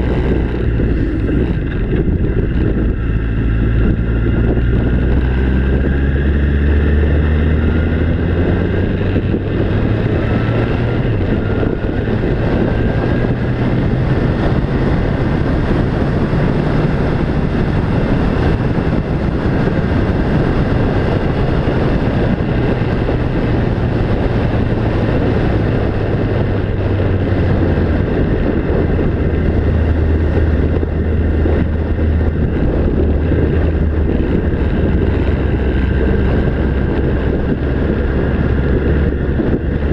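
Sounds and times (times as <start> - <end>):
vehicle engine running: 0.0 - 39.9
wind noise: 0.0 - 39.9.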